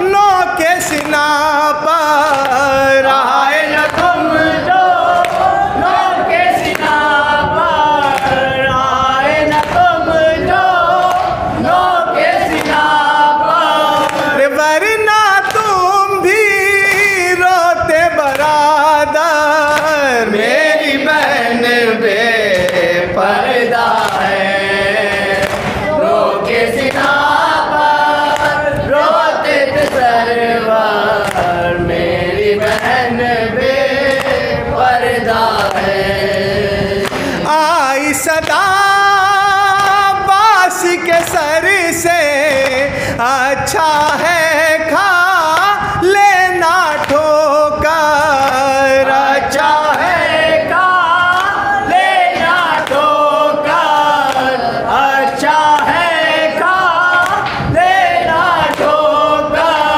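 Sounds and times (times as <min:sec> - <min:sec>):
men chanting a lament: 0:00.0 - 0:59.9
person singing into a microphone: 0:00.0 - 0:59.9.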